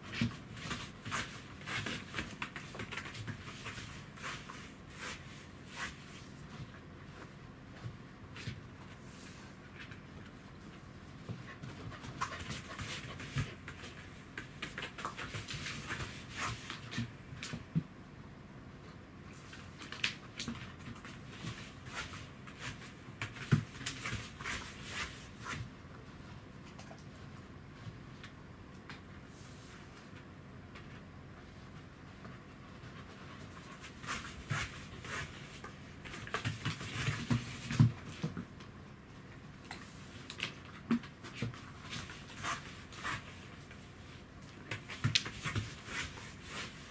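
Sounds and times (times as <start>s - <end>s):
paws scuffing and tapping on floor: 0.0s - 18.0s, 18.9s - 46.9s.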